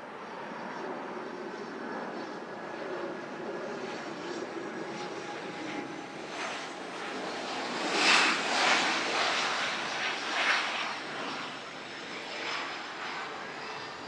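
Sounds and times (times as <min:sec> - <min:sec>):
aircraft passing roar: 0:00.0 - 0:14.0.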